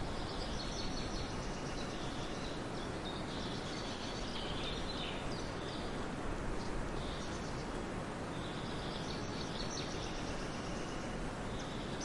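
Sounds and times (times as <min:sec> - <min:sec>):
small birds chirping: 0:00.0 - 0:06.0, 0:06.6 - 0:12.0
outdoor background hiss: 0:00.0 - 0:12.0.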